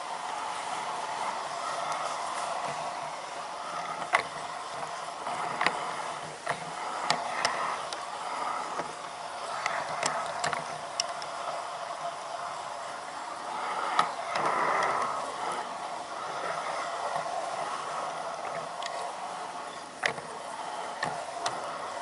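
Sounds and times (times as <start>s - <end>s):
model train wheels and motor whirring: 0.0s - 22.0s
sharp clicks of train track: 0.0s - 22.0s.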